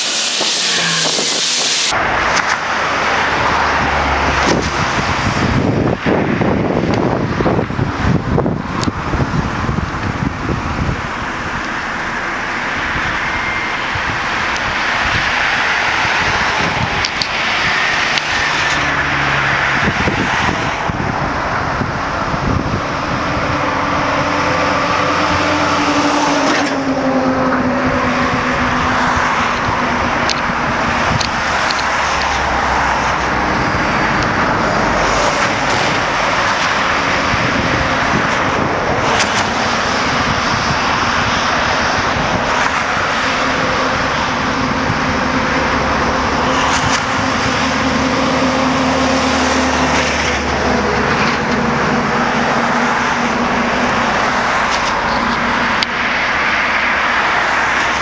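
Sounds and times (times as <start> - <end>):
continuous rushing noise: 0.0 - 58.0
vehicle engine humming: 0.0 - 58.0.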